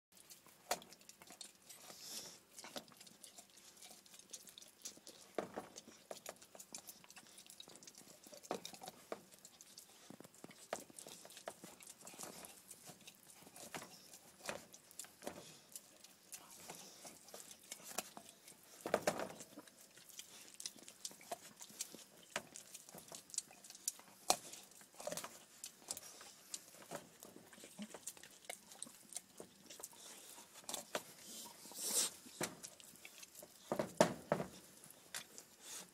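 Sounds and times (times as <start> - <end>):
teeth clicking on bone: 0.2 - 35.6
dog gnawing a bone: 0.2 - 35.9.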